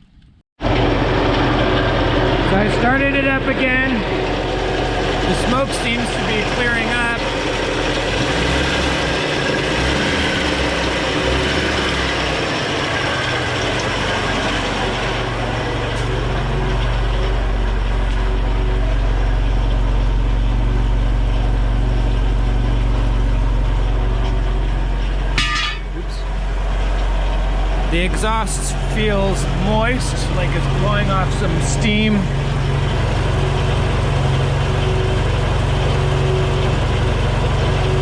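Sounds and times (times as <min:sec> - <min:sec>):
car engine idling: 0:00.2 - 0:38.0.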